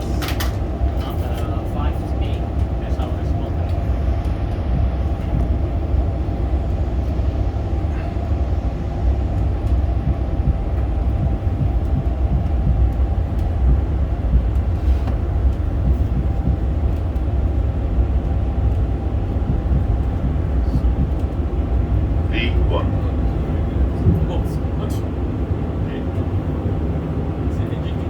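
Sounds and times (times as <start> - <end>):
airliner engines and airflow rumble: 0.0 - 28.0
faint steady hum: 0.0 - 28.0.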